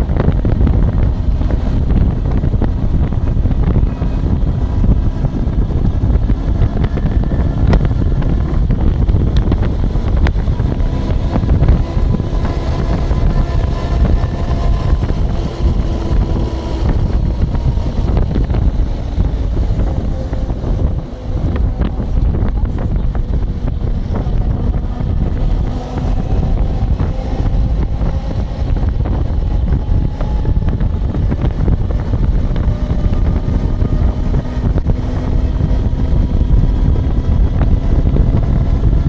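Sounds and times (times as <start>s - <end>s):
wind buffeting a microphone: 0.0s - 39.0s.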